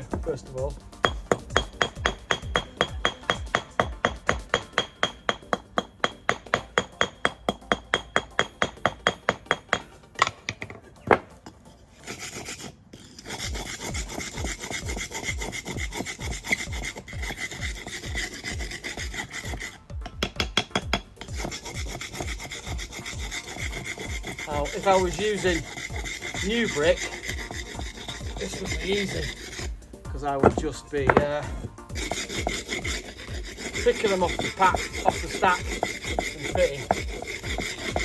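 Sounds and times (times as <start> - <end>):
mortar scraped off brick: 0.0 - 10.3, 11.0 - 38.0.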